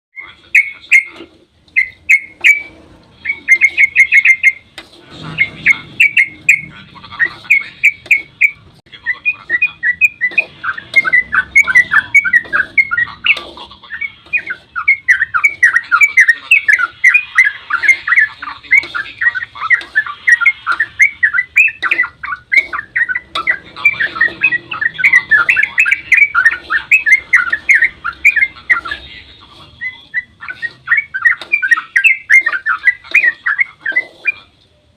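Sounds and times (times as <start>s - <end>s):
bird singing chattering notes: 0.2s - 34.5s.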